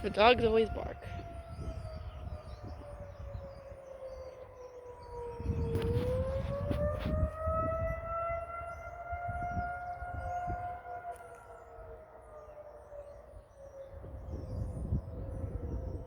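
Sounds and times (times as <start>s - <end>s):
warning siren wailing: 0.0s - 16.0s
wind rumbling on microphone: 0.0s - 16.0s.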